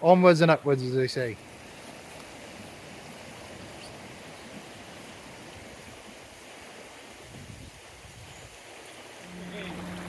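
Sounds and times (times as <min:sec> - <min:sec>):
stream rushing: 0:01.4 - 0:10.0.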